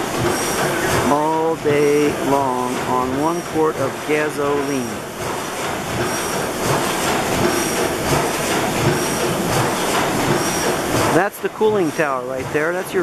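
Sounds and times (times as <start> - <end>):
stationary engine clattering: 0.0 - 13.0.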